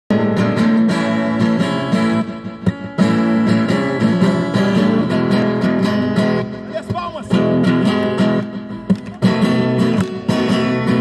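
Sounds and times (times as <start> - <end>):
acoustic guitar strumming: 0.1 - 11.0.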